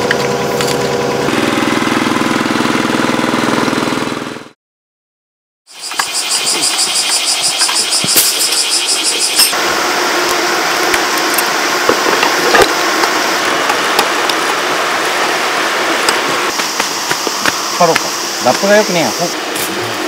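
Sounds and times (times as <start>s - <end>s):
machinery engine running: 0.0s - 4.6s, 5.8s - 20.0s.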